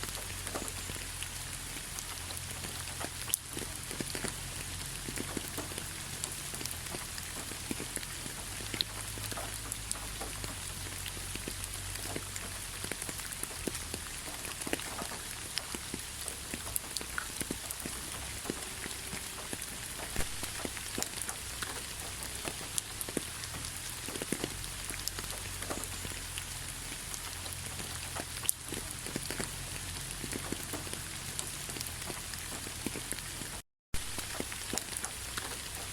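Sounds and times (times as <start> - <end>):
steady rainfall: 0.0 - 35.9.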